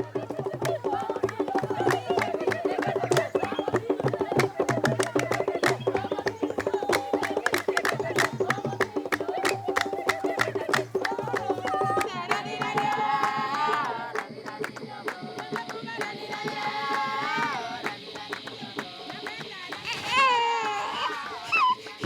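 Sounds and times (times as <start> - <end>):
wavering high voices: 0.0 - 12.2, 16.4 - 22.0
hand drums beating fast rhythm: 0.0 - 20.4
group singing: 0.0 - 22.0.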